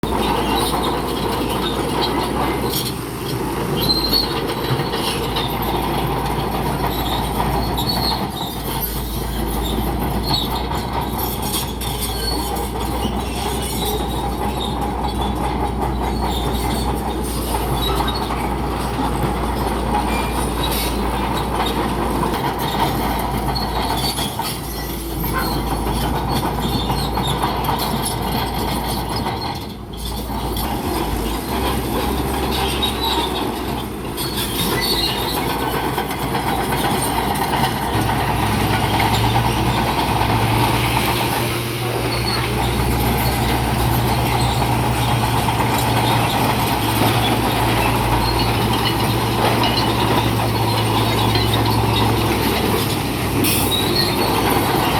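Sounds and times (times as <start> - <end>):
diesel engine running: 0.0 - 54.9
steel tracks squealing and clattering: 0.0 - 54.9.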